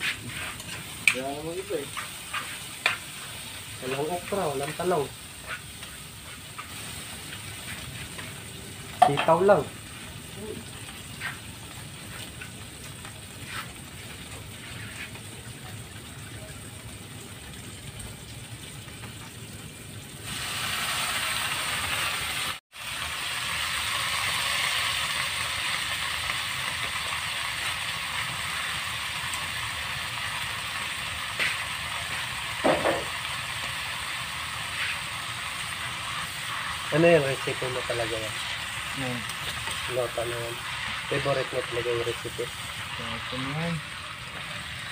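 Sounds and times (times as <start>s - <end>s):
vegetables sizzling in a pan: 0.0s - 44.9s.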